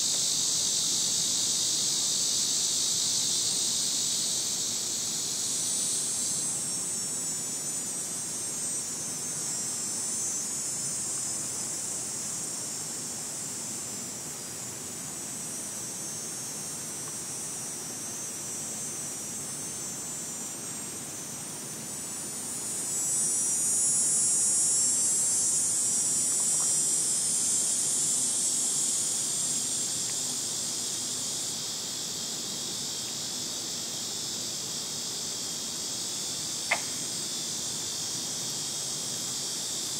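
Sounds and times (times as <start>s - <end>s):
cicada buzzing: 0.0s - 39.9s
insects droning: 0.0s - 39.9s.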